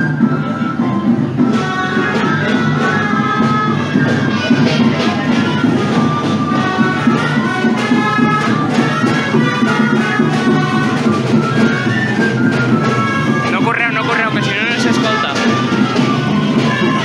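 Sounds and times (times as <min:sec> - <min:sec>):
shawm reed melody: 0:00.0 - 0:17.0
steady drum beat: 0:00.0 - 0:17.0.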